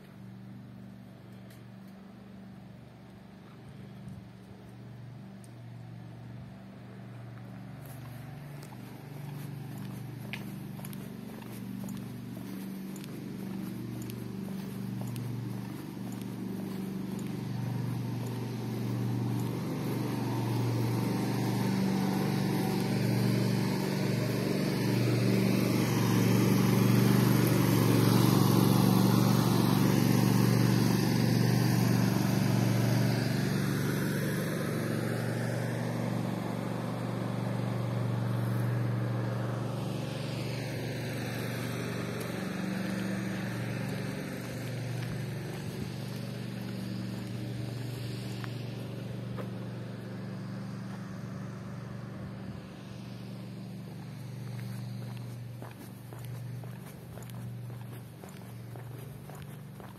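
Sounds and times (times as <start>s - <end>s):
engine passing by: 0.0s - 59.9s.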